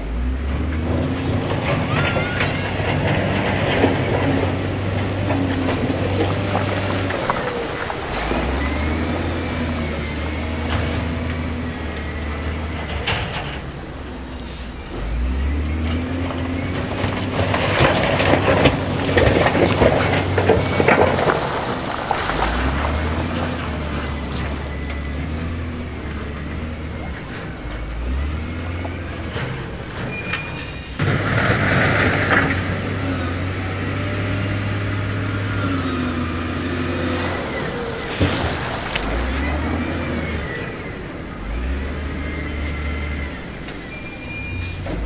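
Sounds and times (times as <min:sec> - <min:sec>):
diesel machinery engine revving: 0:00.0 - 0:45.0
loud rough clattering: 0:00.0 - 0:45.0.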